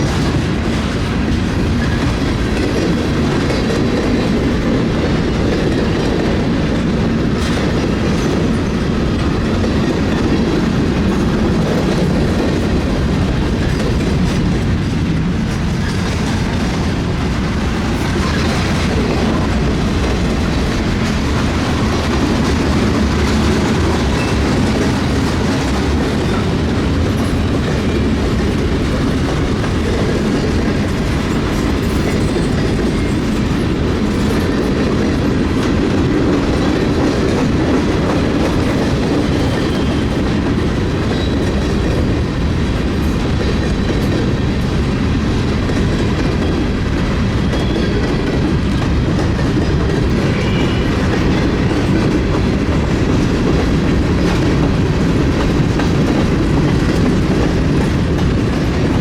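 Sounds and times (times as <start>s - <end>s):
train wheels rumbling and clacking: 0.0s - 59.0s.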